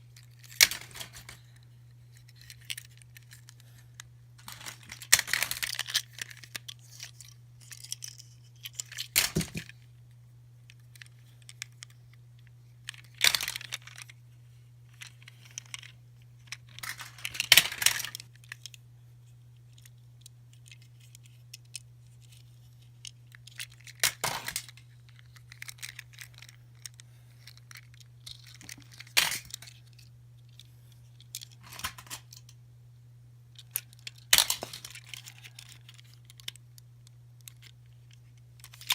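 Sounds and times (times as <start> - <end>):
steady low hum: 0.0 - 38.9
plastic toys crinkling and clicking: 0.1 - 9.9, 10.6 - 18.8, 19.5 - 32.6, 33.5 - 38.9.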